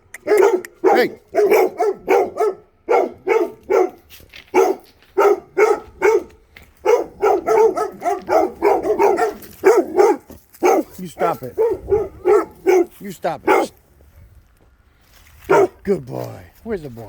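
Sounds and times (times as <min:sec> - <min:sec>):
dogs barking: 0:00.0 - 0:13.8, 0:15.4 - 0:15.8.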